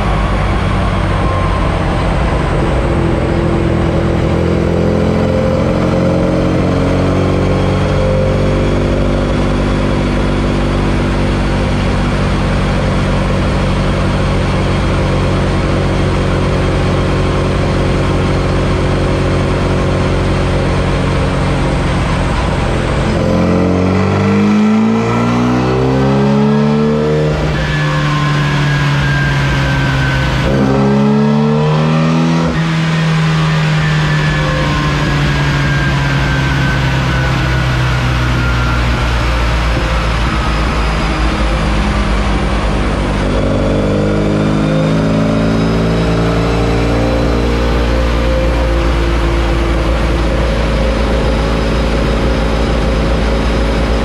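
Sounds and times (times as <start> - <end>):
race engine revving under load: 0.0 - 54.0.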